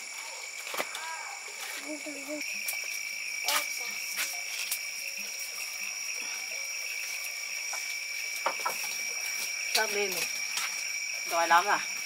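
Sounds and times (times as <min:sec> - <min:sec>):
frogs and insects calling: 0:00.0 - 0:12.0.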